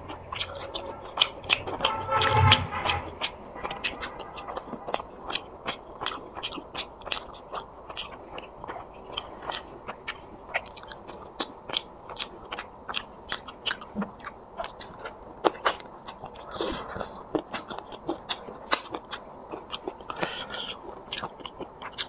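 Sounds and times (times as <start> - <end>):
chewing with lip smacks: 0.0 - 22.0.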